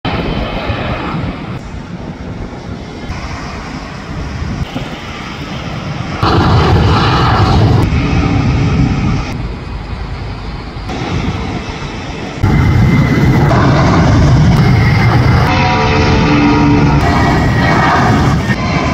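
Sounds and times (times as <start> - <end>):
jet engines roaring at takeoff: 0.0 - 18.9.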